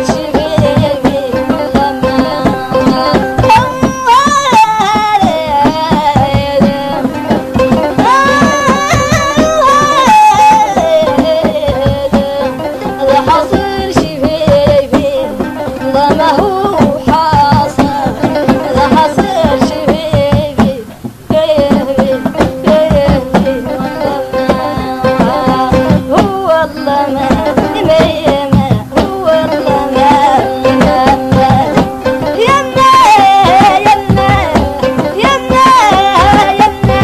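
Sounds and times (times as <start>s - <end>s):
fast hand drum beat: 0.0s - 37.0s
person singing ornamented lines: 0.0s - 37.0s.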